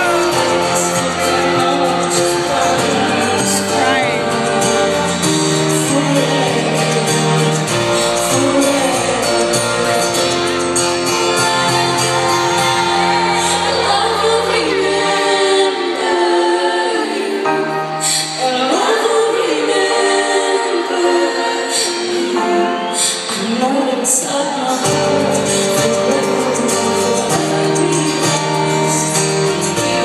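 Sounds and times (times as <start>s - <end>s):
band playing pop ballad: 0.0s - 30.0s
woman singing: 0.0s - 30.0s.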